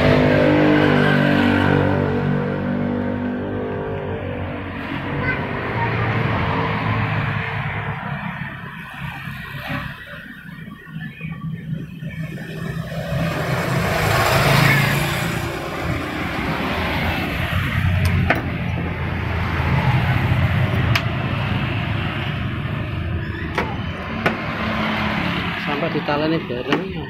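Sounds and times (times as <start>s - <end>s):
motor vehicle passing: 0.0s - 10.0s, 12.2s - 27.0s.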